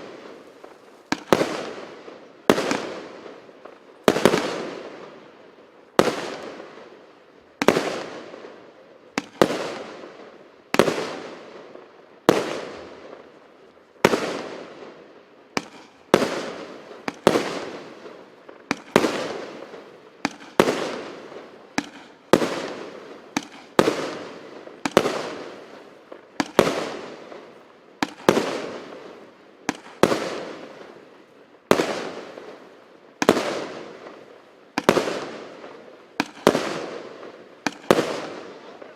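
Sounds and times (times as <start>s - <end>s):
fireworks bangs: 0.0s - 5.3s, 7.6s - 38.9s.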